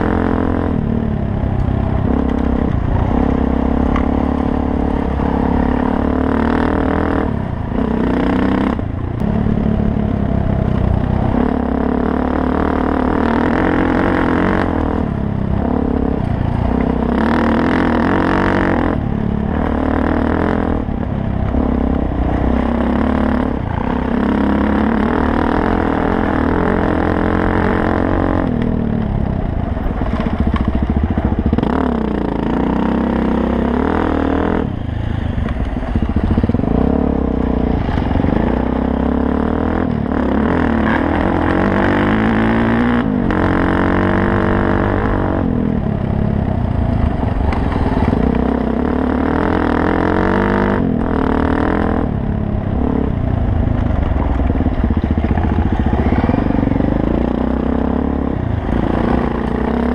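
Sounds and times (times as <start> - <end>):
motorcycle engine revving under load: 0.0 - 59.9.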